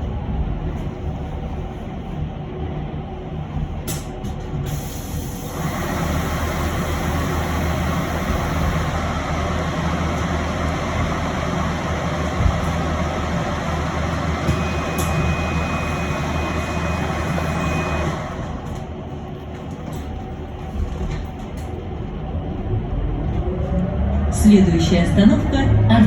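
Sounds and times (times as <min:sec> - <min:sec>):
road and tyre noise: 0:00.0 - 0:26.0.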